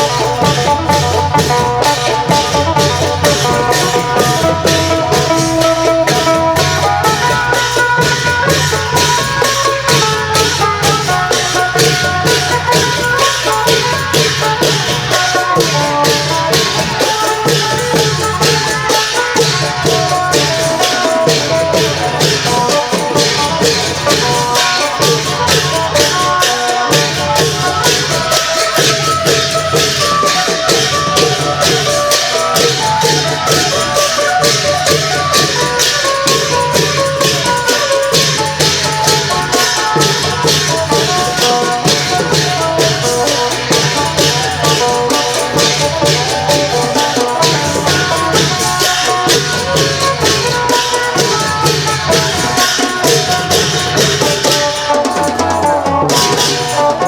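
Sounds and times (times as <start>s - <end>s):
jingling percussion: 0.0s - 57.0s
lute melody: 0.0s - 57.0s
pulsing drums: 0.0s - 57.0s.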